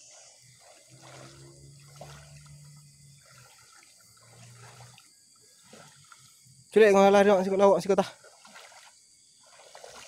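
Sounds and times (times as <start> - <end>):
wading through muddy water: 0.0 - 10.0.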